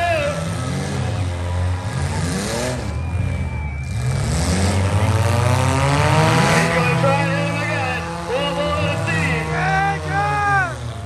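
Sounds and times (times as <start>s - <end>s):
car engines revving roughly: 0.0s - 11.0s.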